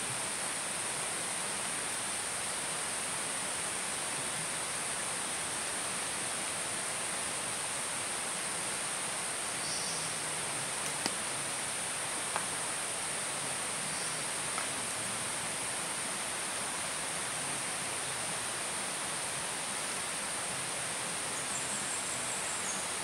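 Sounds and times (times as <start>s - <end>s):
constant hiss: 0.0s - 23.0s
forest insect chorus drone: 0.0s - 23.0s.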